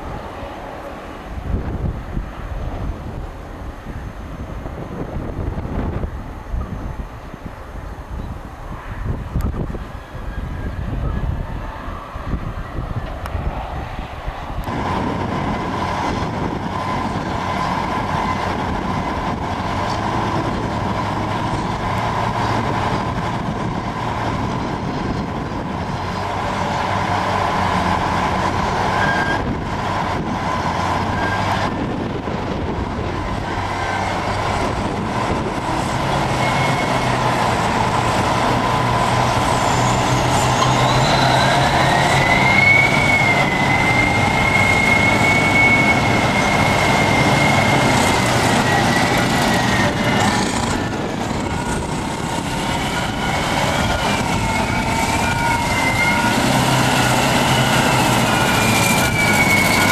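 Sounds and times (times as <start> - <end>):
diesel engine droning: 0.0 - 59.9
rising whine: 8.3 - 59.9.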